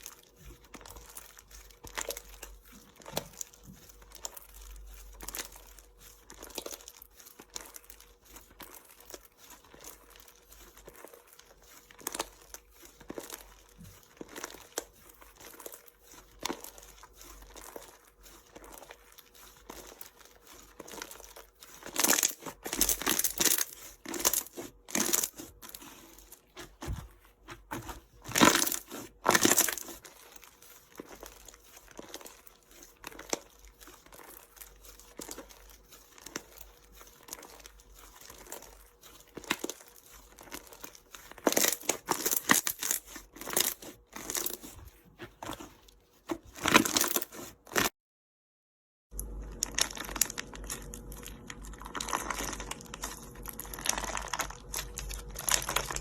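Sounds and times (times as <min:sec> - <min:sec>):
slime crackling: 0:00.0 - 0:47.9, 0:49.2 - 0:56.0.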